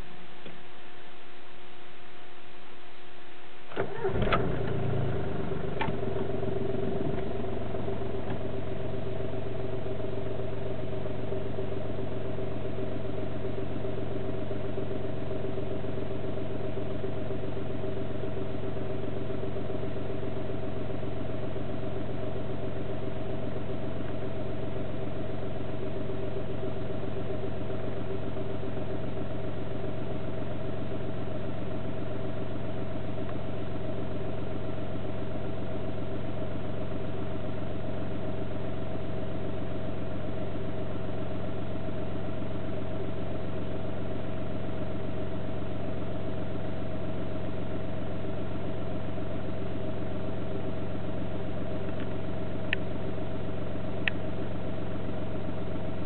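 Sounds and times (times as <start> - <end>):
diesel engine idling: 3.7 - 56.0.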